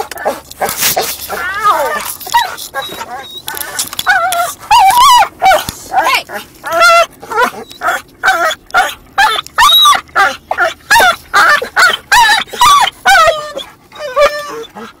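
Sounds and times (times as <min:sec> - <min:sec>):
dog whining barks: 0:00.0 - 0:15.0.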